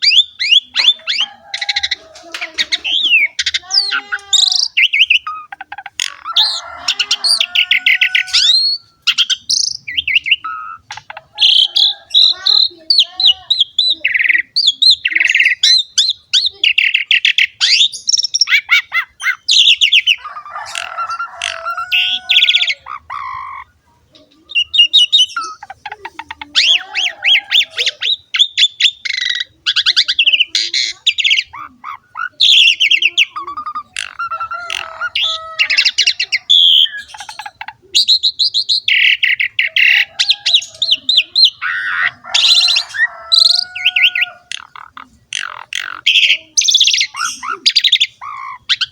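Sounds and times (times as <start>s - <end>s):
starling singing trills and whistles: 0.0s - 48.9s.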